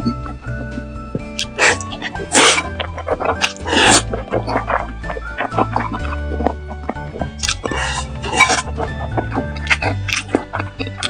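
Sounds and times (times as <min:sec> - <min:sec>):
steady bass line: 0:00.0 - 0:11.0.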